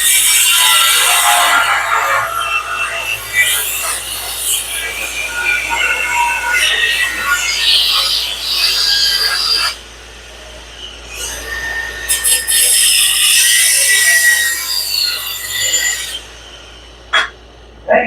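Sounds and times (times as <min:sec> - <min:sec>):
angle grinder cutting metal: 0:00.0 - 0:10.4, 0:11.0 - 0:16.5.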